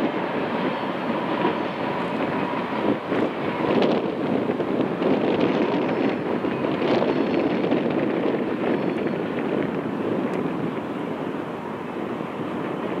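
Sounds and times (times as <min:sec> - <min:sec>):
train rumbling over steel trestle: 0:00.0 - 0:10.9.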